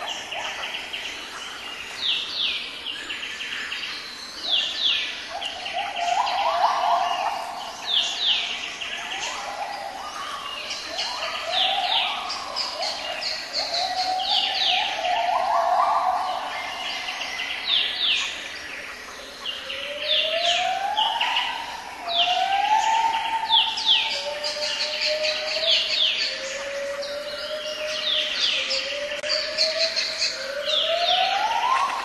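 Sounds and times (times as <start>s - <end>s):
birds whistling downward: 4.5s - 18.4s, 19.7s - 32.0s.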